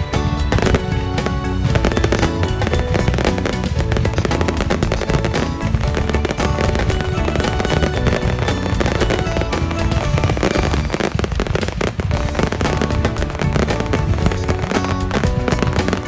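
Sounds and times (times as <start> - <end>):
background music: 0.0 - 16.0
fireworks bursting and crackling: 0.0 - 16.0.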